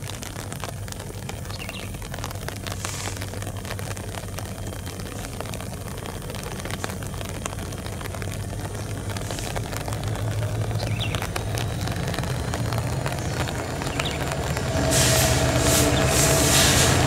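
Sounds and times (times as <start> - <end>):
diesel locomotive engines droning: 2.8 - 17.0.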